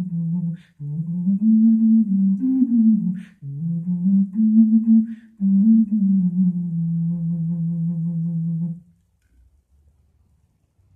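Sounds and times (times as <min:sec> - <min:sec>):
ocarina playing low melody: 0:00.0 - 0:08.9.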